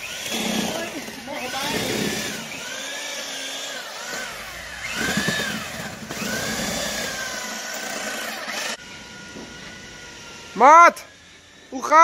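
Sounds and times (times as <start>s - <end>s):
power tool whining: 0.0s - 12.0s.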